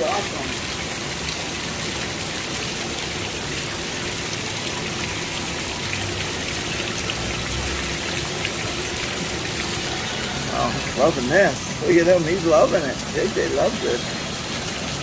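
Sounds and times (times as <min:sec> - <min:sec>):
heavy rain pouring: 0:00.0 - 0:15.0
raindrops ticking on surfaces: 0:00.0 - 0:15.0.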